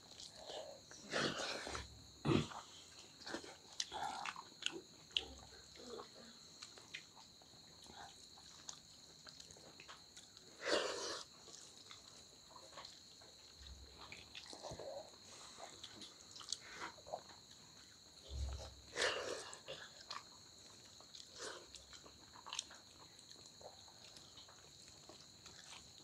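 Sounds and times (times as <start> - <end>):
chewing and lip-smacking: 0.0 - 1.8, 2.5 - 26.0.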